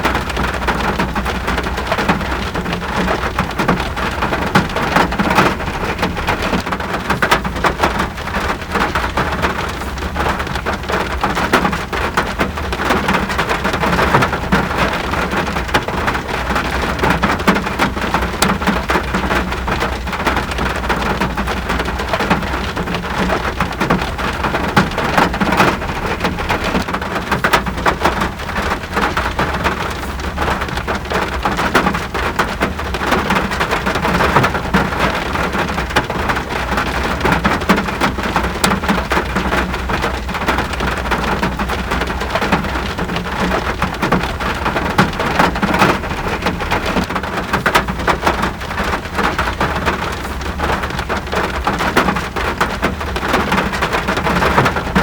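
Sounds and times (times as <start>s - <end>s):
heavy rain patter: 0.0s - 55.0s.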